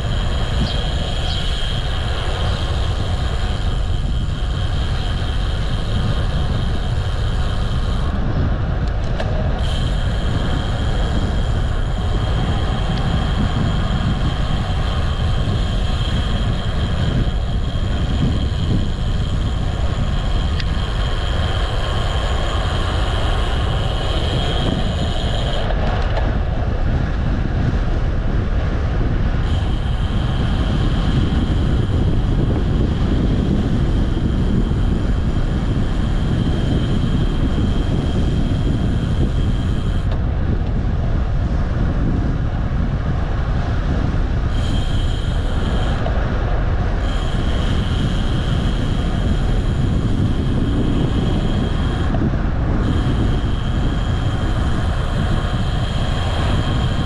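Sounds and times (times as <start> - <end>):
thin high whine: 0.0 - 57.0
wind rushing over microphone: 0.0 - 57.0.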